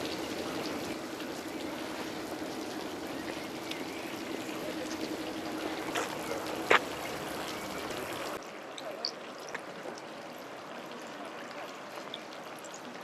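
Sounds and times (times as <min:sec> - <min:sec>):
rushing outdoor background noise: 0:00.0 - 0:13.0.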